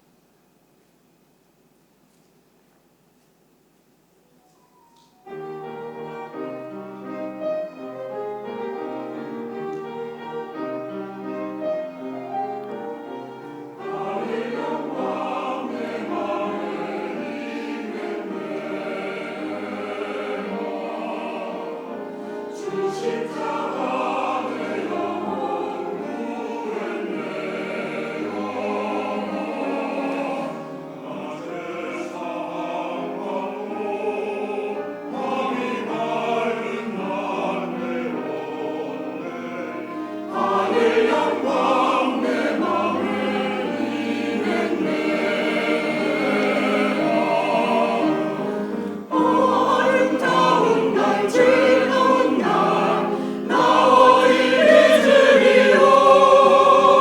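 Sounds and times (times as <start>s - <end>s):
choir singing a hymn: 5.2s - 57.0s.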